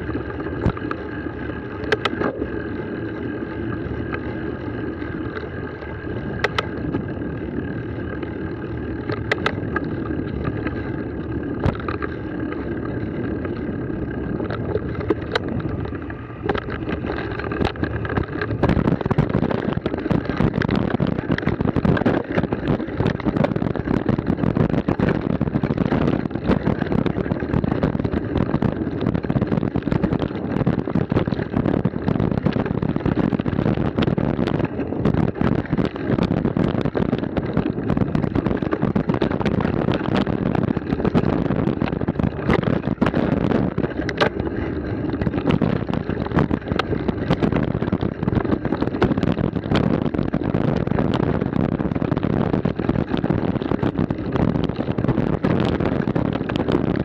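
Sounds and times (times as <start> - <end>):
bike and stones rattling: 0.0 - 57.0
bike tyre rumble: 0.0 - 57.0
wind rush on microphone: 0.0 - 57.0.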